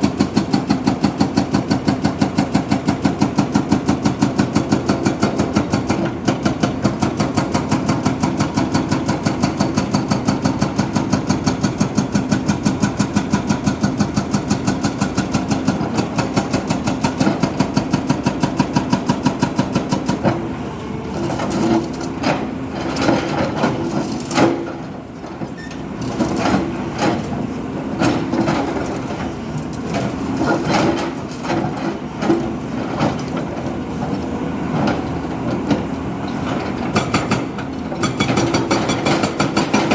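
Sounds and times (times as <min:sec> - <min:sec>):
engine knocking and clanking: 0:00.0 - 0:39.9.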